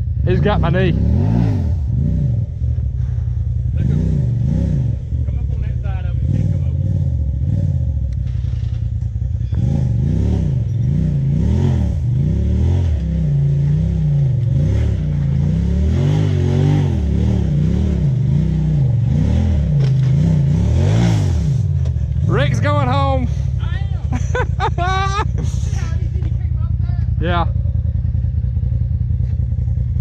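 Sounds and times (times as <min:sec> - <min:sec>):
utility vehicle engine revving: 0:00.0 - 0:30.0.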